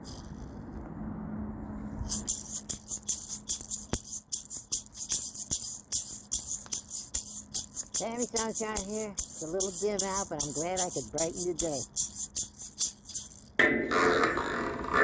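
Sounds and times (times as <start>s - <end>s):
rattle shaken: 0.0s - 0.6s, 2.0s - 13.6s
low steady hum: 0.0s - 14.5s.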